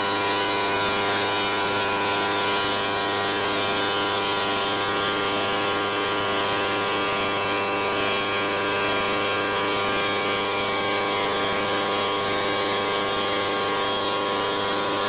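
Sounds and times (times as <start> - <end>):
stone router machine hum: 0.0 - 15.0.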